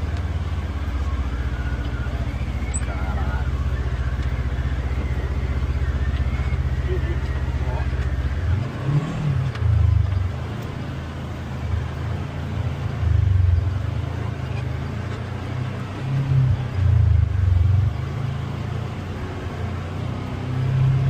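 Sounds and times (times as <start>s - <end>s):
vehicle engine running under load: 0.0s - 21.0s.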